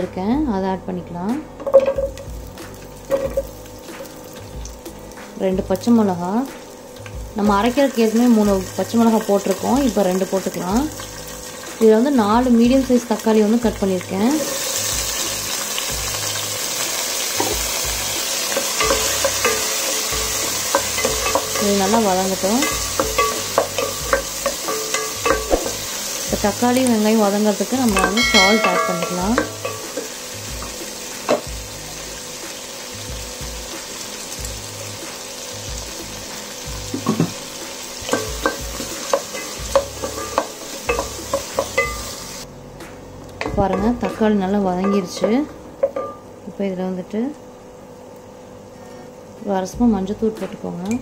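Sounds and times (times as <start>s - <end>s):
vegetables sizzling in hot oil: 1.4s - 51.0s.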